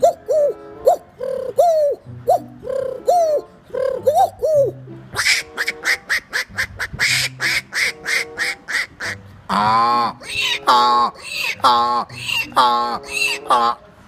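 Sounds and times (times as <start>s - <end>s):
man imitating bird calls: 0.0s - 13.8s.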